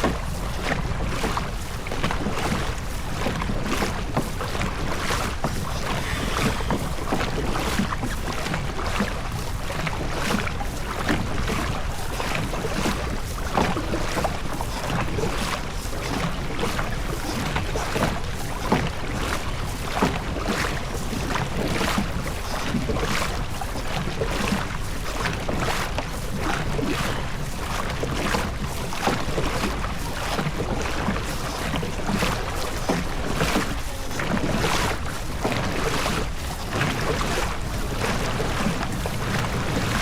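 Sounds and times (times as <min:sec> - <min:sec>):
oar blades splashing: 0:00.0 - 0:40.0
water noise: 0:00.0 - 0:40.0
wind: 0:00.0 - 0:40.0.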